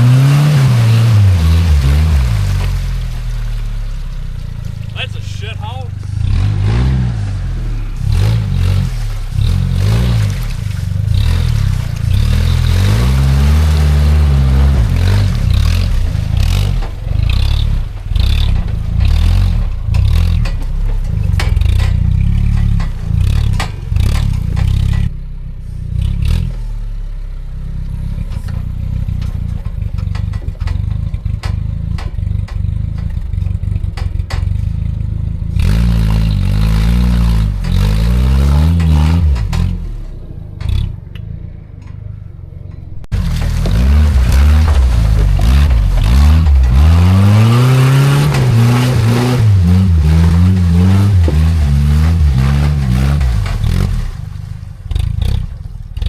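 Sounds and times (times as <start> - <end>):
engine revving: 0.0 - 41.9, 43.0 - 56.0
vehicle clattering and scraping: 0.0 - 56.0.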